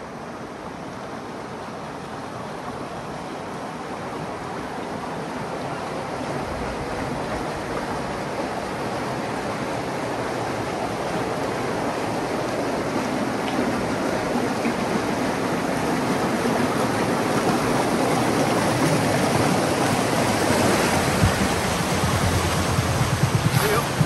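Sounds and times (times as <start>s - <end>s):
water rushing over a weir: 0.0s - 24.0s.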